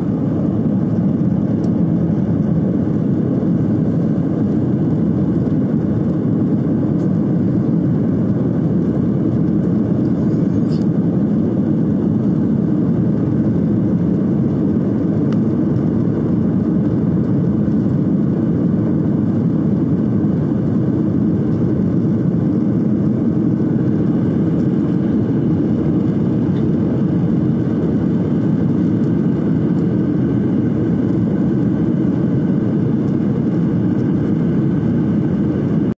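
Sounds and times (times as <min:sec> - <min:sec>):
jet airliner cabin noise: 0:00.0 - 0:35.9.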